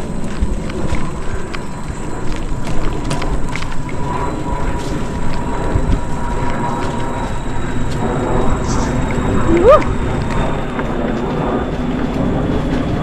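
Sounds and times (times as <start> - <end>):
bike rattles and clicks: 0.0 - 13.0
faint high whine: 0.0 - 13.0
tyre and wind rumble: 0.0 - 13.0.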